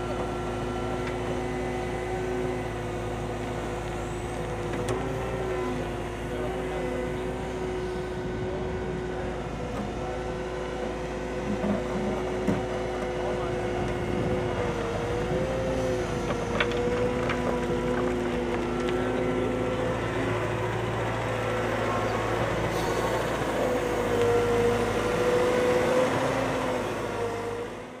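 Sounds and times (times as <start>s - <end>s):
diesel engine and hydraulics running: 0.0s - 28.0s.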